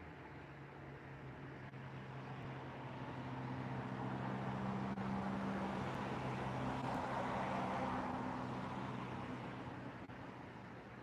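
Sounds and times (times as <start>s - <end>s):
vehicle engine hum and tyre rush: 0.0s - 11.0s.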